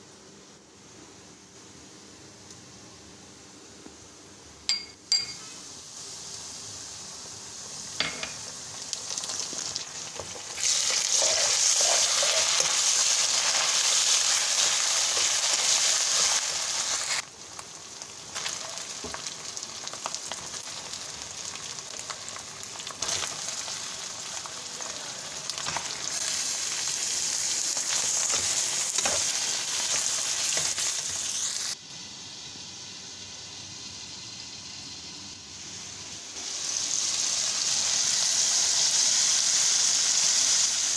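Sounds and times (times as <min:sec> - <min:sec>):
food sizzling in hot oil: 0:04.7 - 0:40.9.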